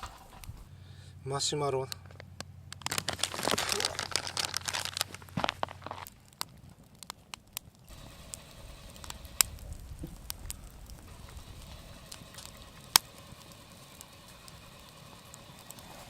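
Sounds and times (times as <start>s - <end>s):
campfire crackling and popping: 0.0s - 16.0s
low hiss of fire: 0.0s - 16.0s.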